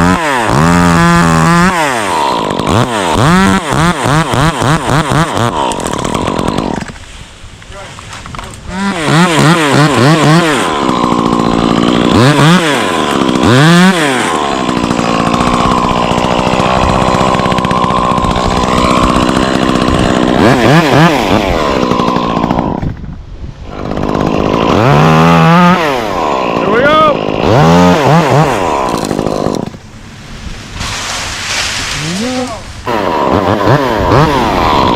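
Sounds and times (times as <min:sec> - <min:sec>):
chainsaw engine revving: 0:00.0 - 0:07.1, 0:08.2 - 0:23.0, 0:23.6 - 0:34.9.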